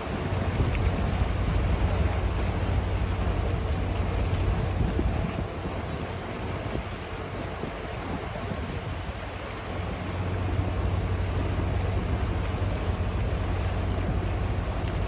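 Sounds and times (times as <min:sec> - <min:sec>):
boat engine humming: 0:00.0 - 0:15.0
water washing: 0:00.0 - 0:15.0
wind noise on microphone: 0:00.0 - 0:15.0.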